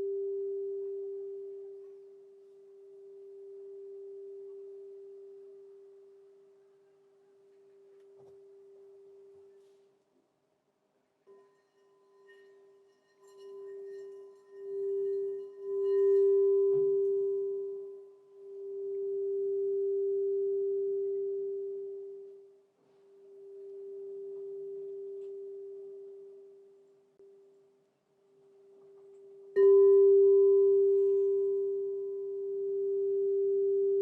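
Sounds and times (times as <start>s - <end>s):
crystal singing bowl tone: 0.0s - 9.8s, 11.3s - 27.7s, 28.4s - 34.0s.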